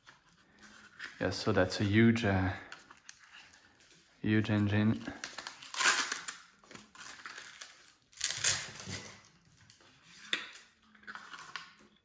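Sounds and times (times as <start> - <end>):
packaging rustling and crinkling: 0.0 - 11.9.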